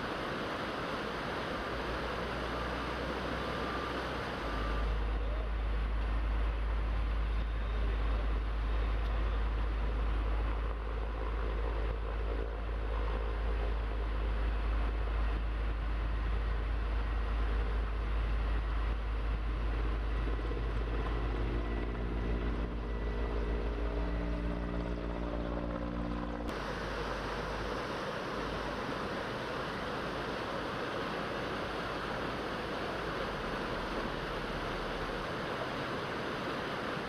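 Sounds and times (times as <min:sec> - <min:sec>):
engine low rumble: 0:00.0 - 0:37.0
steady pitched hum: 0:00.0 - 0:37.0.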